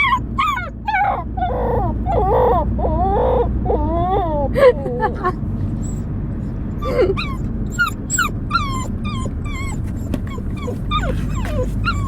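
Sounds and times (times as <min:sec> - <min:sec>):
dog whining: 0:00.0 - 0:12.0.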